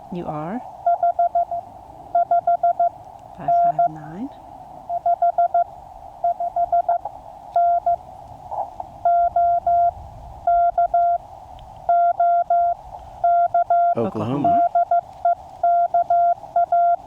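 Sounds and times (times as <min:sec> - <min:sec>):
faint radio hiss: 0:00.0 - 0:17.0
morse code tone: 0:00.8 - 0:04.2, 0:04.9 - 0:08.0, 0:09.0 - 0:11.2, 0:11.9 - 0:17.0.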